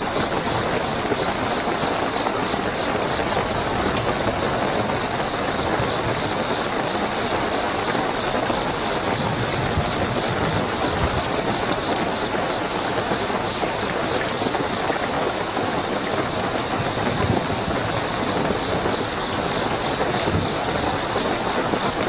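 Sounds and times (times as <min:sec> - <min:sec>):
crickets chirping: 0:00.0 - 0:22.0
heavy rainfall: 0:00.0 - 0:22.0.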